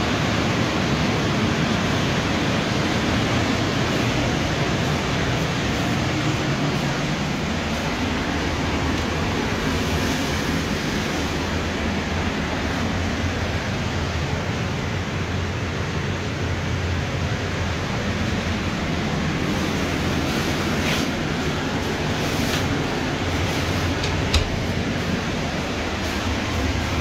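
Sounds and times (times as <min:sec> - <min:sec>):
blower rushing drone: 0:00.0 - 0:27.0.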